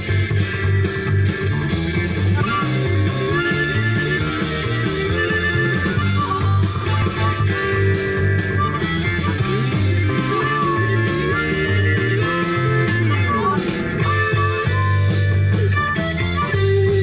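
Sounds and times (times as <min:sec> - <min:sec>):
harmonica: 0:00.0 - 0:17.0
rock music with bass and guitar: 0:00.0 - 0:17.0.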